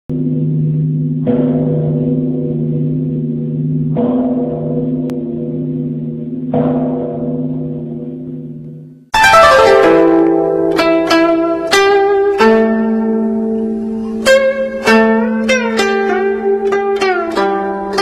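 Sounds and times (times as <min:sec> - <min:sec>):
deep ringing metal percussion: 0:00.1 - 0:18.0.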